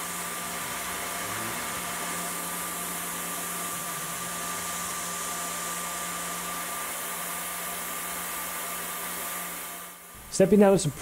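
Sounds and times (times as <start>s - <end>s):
mill spindle whining: 0.0s - 11.0s
steady hiss: 0.0s - 11.0s.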